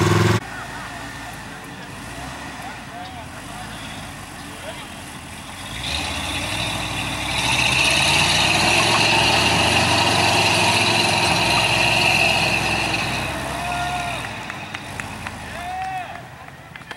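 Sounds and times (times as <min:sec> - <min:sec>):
truck engine running at high revs: 0:00.0 - 0:15.8.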